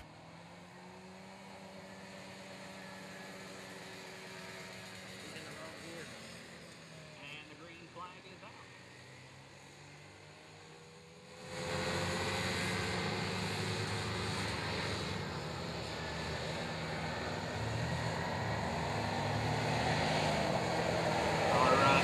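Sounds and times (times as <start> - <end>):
atv engines buzzing: 0.0 - 22.0.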